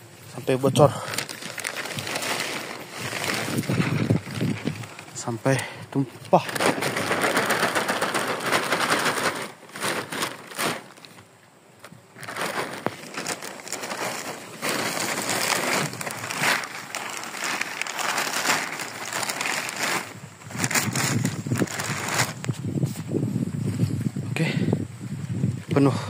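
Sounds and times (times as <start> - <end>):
plastic sheeting rustling: 0.0 - 24.6.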